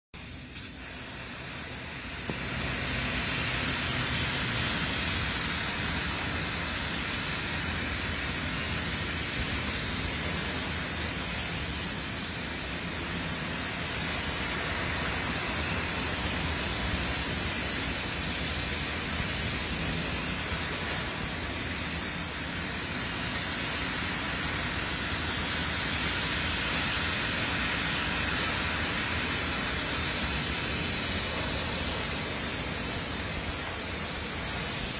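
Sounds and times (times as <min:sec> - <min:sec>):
continuous hiss: 0:00.2 - 0:34.9.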